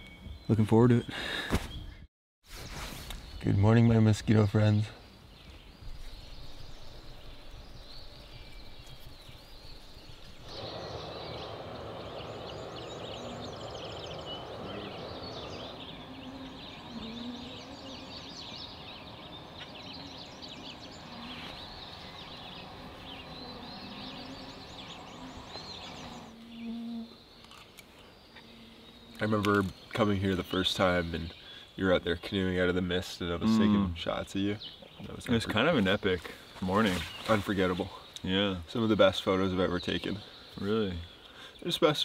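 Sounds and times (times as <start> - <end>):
birds chirping and trilling: 0.0 - 42.0.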